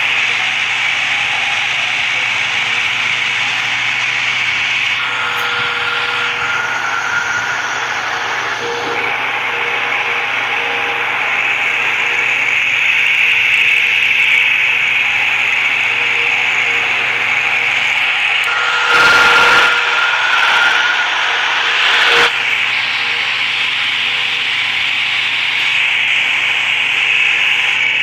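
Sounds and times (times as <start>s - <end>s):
wall fan running: 0.0s - 28.0s.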